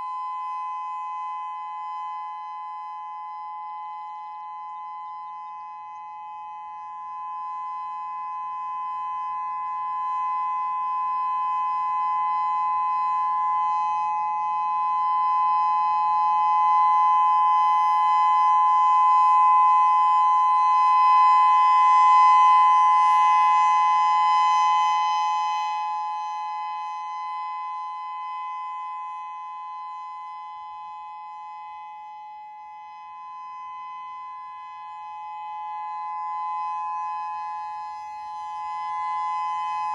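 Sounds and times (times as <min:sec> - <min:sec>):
electronic warning siren steady tone: 0:00.0 - 0:39.9.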